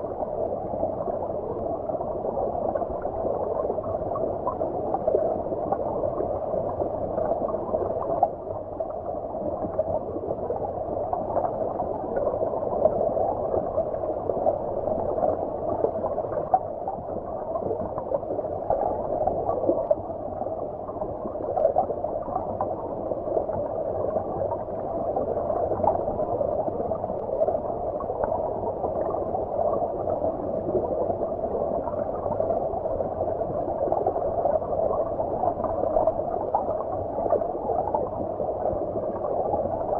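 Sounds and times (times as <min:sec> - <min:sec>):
muffled stream water bubbling: 0:00.0 - 0:39.9.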